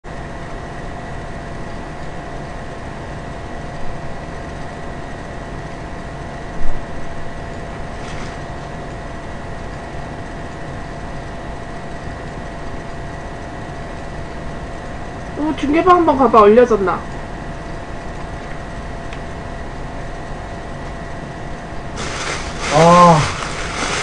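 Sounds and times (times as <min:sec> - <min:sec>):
machine hum with whining tones: 0:00.1 - 0:24.0.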